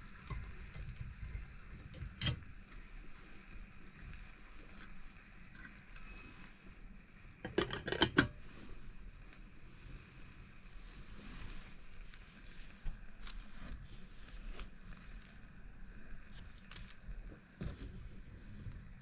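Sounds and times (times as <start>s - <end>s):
faint steady background noise: 0.0s - 19.0s.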